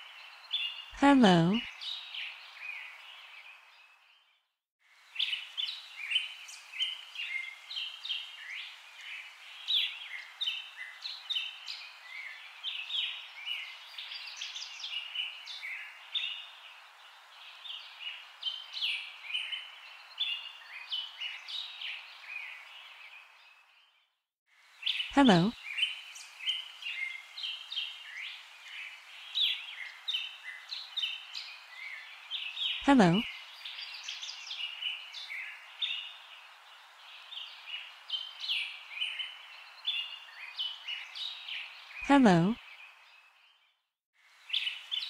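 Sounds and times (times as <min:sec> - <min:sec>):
small birds chirping: 0:05.2 - 0:24.0, 0:24.8 - 0:43.7.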